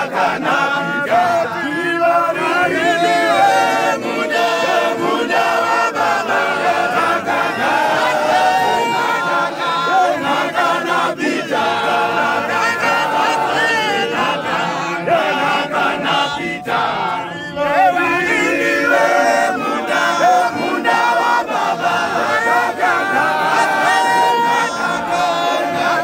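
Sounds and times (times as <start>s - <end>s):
men singing together unaccompanied: 0.0s - 26.0s.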